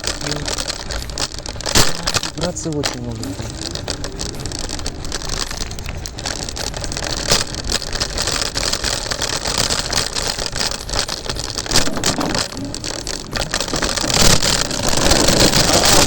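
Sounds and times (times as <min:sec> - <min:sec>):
scooter rattling: 0:00.0 - 0:16.0
tyres rumbling on pavement: 0:00.0 - 0:16.0.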